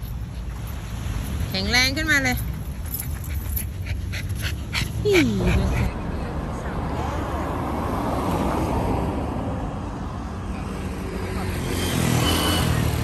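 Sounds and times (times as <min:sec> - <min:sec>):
car driving on road: 0:00.0 - 0:13.0.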